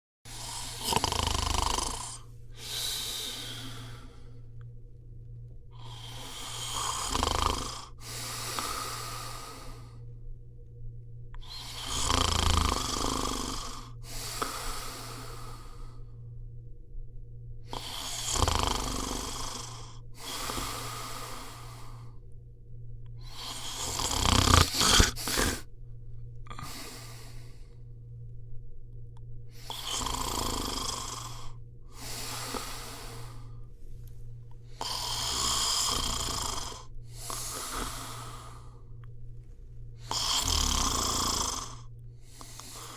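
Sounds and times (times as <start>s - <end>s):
person snoring: 0.3s - 4.6s, 5.7s - 10.2s, 11.4s - 16.2s, 17.6s - 22.2s, 23.2s - 25.7s, 26.5s - 27.9s, 29.5s - 42.9s.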